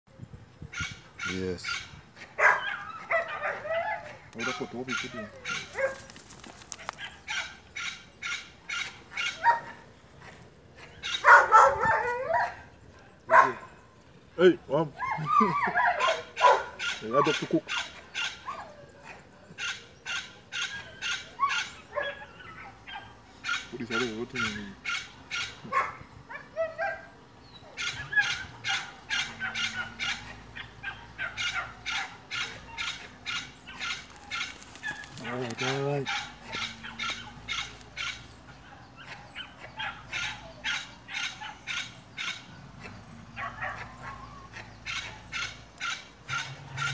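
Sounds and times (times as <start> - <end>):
animal calling rapidly: 0.7 - 9.8, 14.9 - 18.7, 19.6 - 27.0, 27.7 - 46.9
dog barking: 0.8 - 6.1, 6.9 - 9.8, 11.0 - 12.6, 13.3 - 13.7, 15.0 - 27.1, 27.7 - 46.9.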